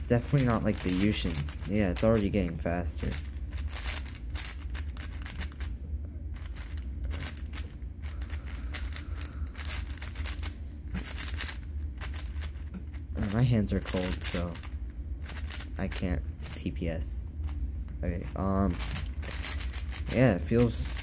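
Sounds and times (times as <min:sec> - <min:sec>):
puzzle cube clicking and scraping: 0:00.1 - 0:05.8, 0:06.4 - 0:16.8, 0:17.4 - 0:21.0.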